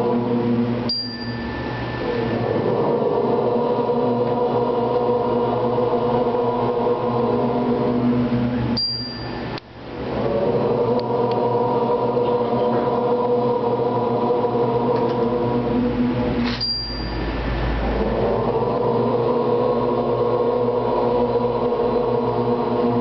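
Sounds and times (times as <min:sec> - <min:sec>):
sustained drone of held pitches: 0:00.0 - 0:23.0.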